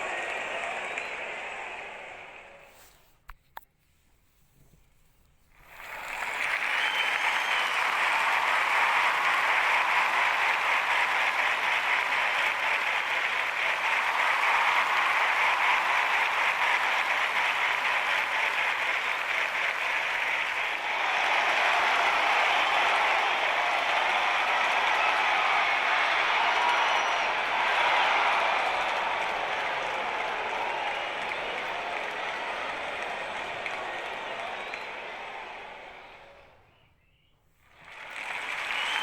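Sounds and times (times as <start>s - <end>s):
applause: 0.0s - 2.9s, 5.6s - 36.6s, 37.6s - 39.0s.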